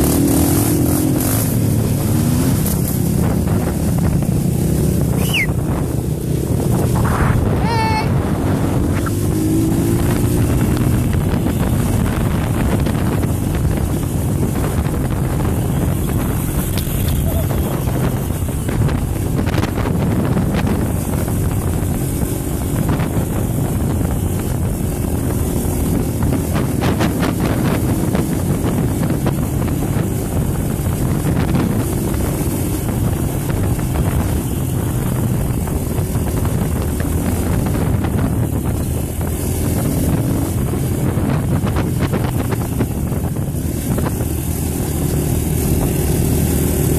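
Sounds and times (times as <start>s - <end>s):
dirt bike engine running: 0.0s - 46.9s
wind buffeting microphone: 0.0s - 46.9s.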